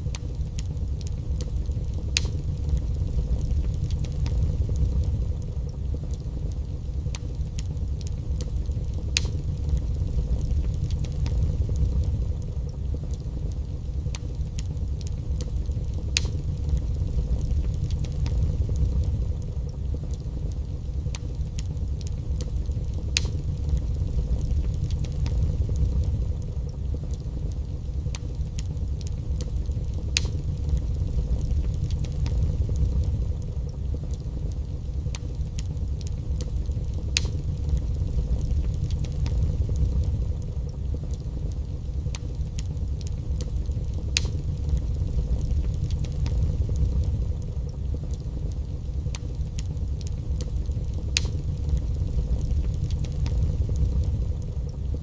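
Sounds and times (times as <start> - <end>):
fire crackling: 0.0 - 55.0
fire pops: 0.0 - 55.0
wood fire rumbling: 0.0 - 55.0.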